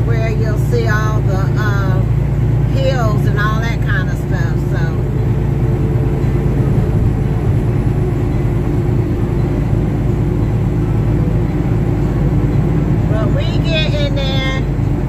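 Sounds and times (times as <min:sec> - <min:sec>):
diesel truck engine running: 0:00.0 - 0:15.0
road noise: 0:00.0 - 0:15.0.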